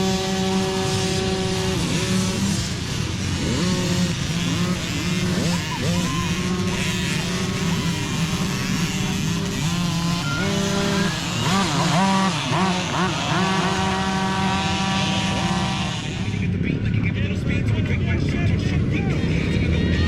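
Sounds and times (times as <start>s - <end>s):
mini dirt bike engines revving: 0.0s - 20.0s.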